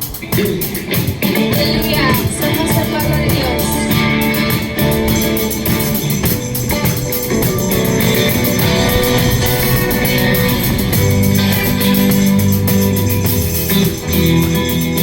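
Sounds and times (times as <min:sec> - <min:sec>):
guitar-led worship music: 0:00.0 - 0:15.0
steady drum beat: 0:00.0 - 0:15.0.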